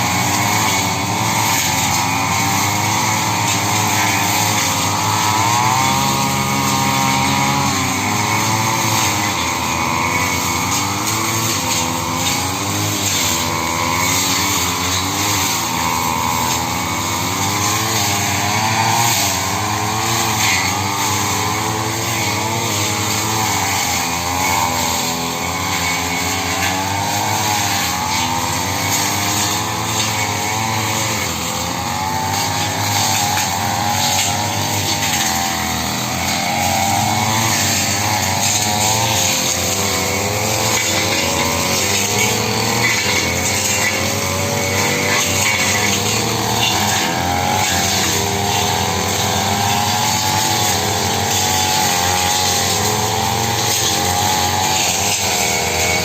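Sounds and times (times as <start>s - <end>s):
brush cutter engine cutting: 0.0s - 56.0s.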